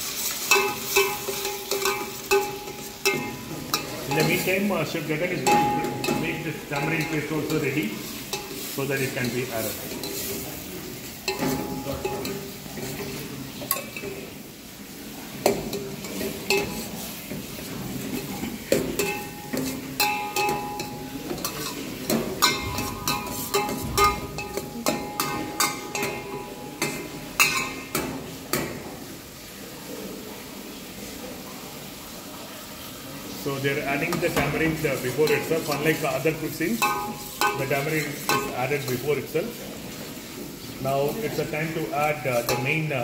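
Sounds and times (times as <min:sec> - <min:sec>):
utensil stirring food in pan: 0:00.0 - 0:29.6, 0:32.9 - 0:43.0
utensil clanking against pan: 0:00.2 - 0:14.4, 0:15.4 - 0:28.9, 0:34.0 - 0:40.0, 0:41.2 - 0:43.0.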